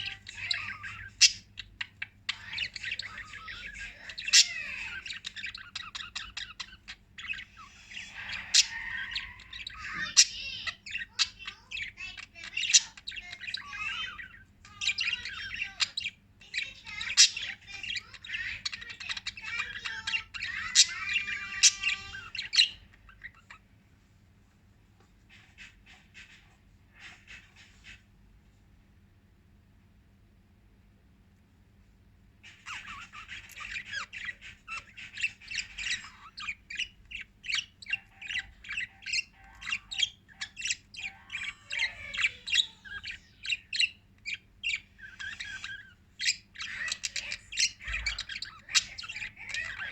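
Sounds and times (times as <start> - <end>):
lovebirds chirping and squawking: 0.0 - 28.6, 32.1 - 49.9.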